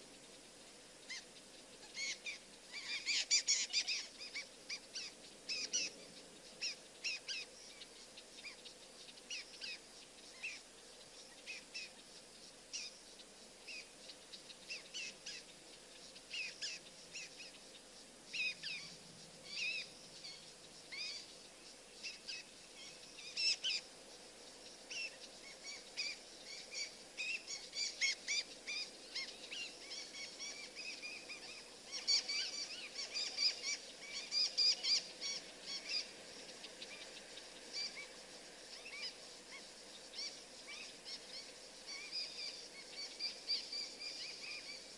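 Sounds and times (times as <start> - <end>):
birds chirping and calling: 1.0 - 12.0, 12.7 - 23.9, 24.6 - 44.9.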